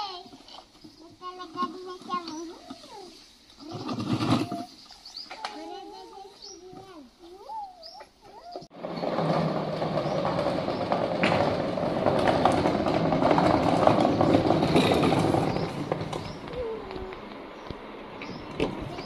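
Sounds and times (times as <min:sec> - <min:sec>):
plastic wheels rolling over concrete: 0:00.0 - 0:19.0.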